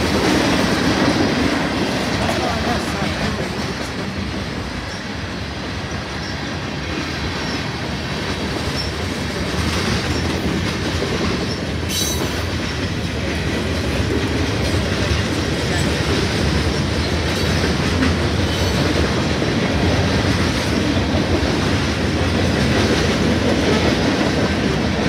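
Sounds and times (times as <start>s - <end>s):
train wheels rolling on rail: 0.0s - 25.0s.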